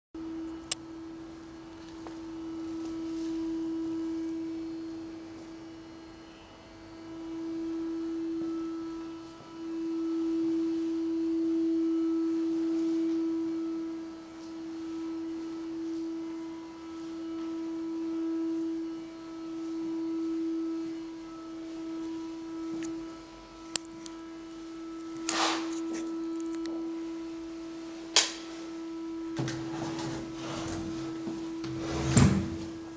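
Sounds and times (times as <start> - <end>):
steady humming tone: 0.2 - 32.9.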